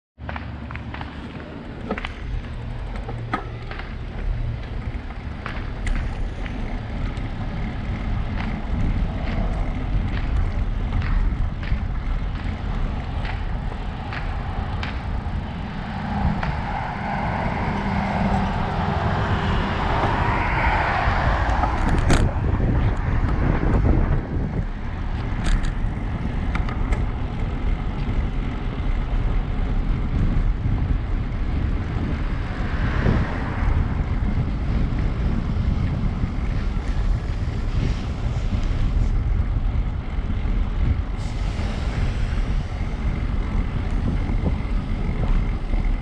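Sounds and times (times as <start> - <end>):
bike clicks and rattles: 0.2 - 17.5, 18.2 - 46.0
bicycle tyres on rough asphalt: 0.2 - 46.0
car passing: 0.2 - 46.0
wind rumbling on microphone: 0.2 - 46.0.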